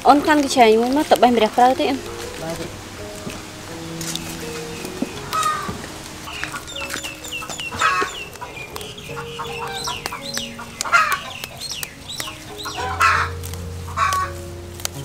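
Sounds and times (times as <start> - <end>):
chickens clucking: 0.1 - 14.9.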